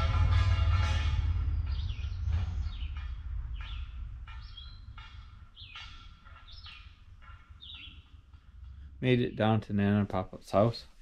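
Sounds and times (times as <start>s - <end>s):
low rumble: 0.0s - 10.1s
songbird chirping: 0.2s - 11.0s.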